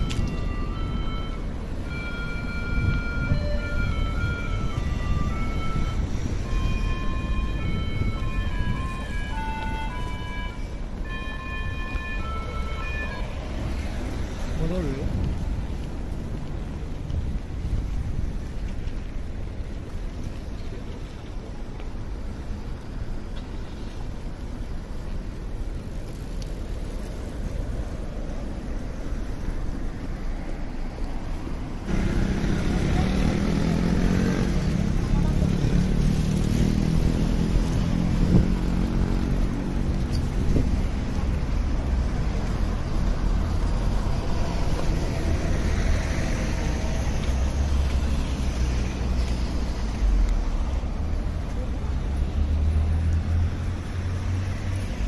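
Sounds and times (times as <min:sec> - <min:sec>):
road traffic passing: 0:00.0 - 0:55.0
voices of passers-by: 0:00.0 - 0:55.0.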